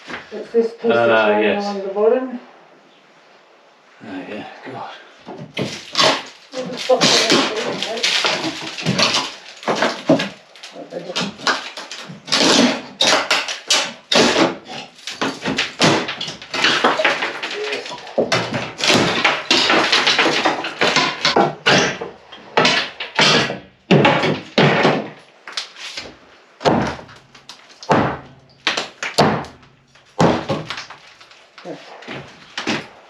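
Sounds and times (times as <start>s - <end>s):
knocks and thuds on wood: 5.3s - 33.0s
scraping and rattling: 5.3s - 33.0s.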